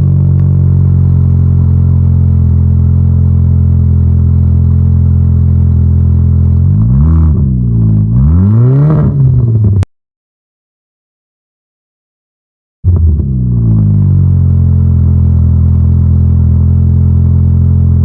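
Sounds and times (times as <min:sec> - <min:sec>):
car engine idling and revving: 0:00.0 - 0:09.9, 0:12.9 - 0:18.0.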